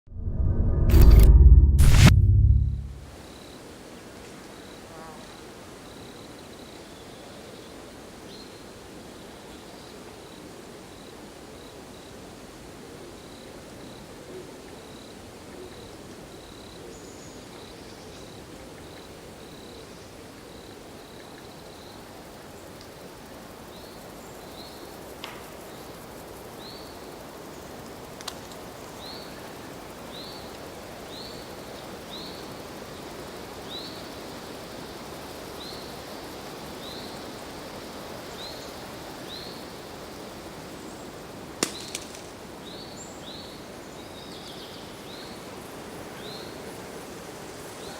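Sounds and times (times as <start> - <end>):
steady background hiss: 4.0 - 47.9.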